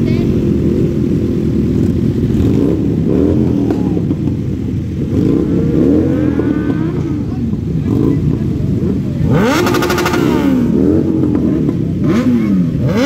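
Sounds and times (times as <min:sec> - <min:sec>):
motorcycle engines idling with throttle blips: 0:00.0 - 0:13.0.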